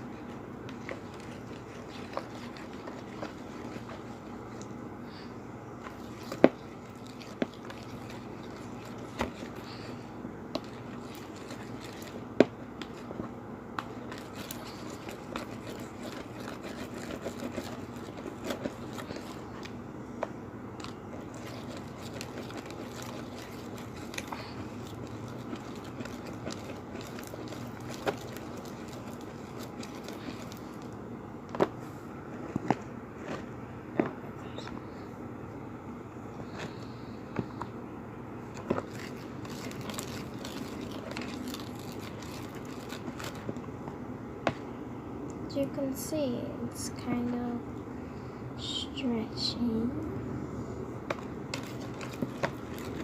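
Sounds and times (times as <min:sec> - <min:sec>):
slime stirred and scraped: 0:00.0 - 0:35.1, 0:36.2 - 0:37.7, 0:38.4 - 0:43.7, 0:51.0 - 0:53.0.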